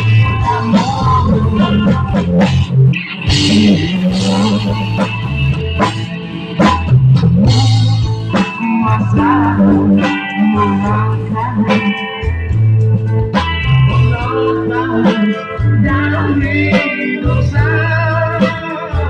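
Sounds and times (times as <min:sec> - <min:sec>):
bass guitar: 0:00.0 - 0:19.0
drum kit: 0:00.0 - 0:19.0
guitar: 0:00.0 - 0:19.0.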